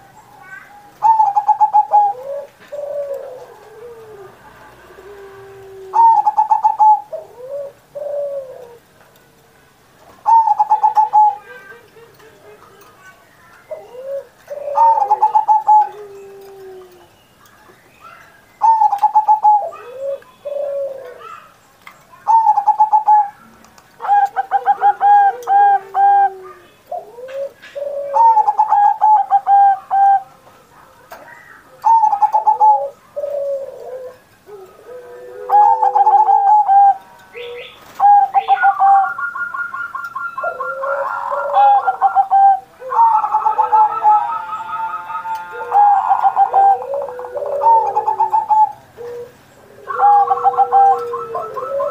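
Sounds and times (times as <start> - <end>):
dove cooing song: 0.0 - 9.3, 10.1 - 51.9.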